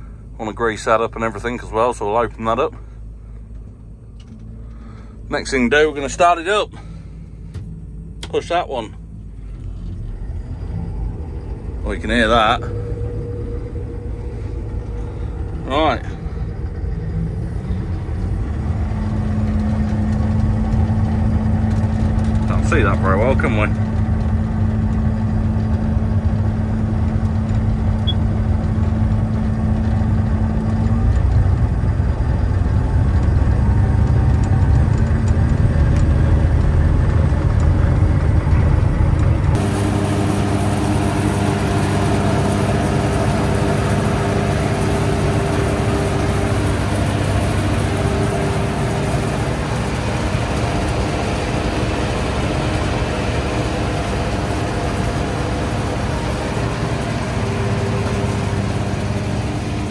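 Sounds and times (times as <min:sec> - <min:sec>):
combine harvester engine hum: 0:00.0 - 0:59.9
running belts and pulleys whine: 0:00.0 - 0:59.9.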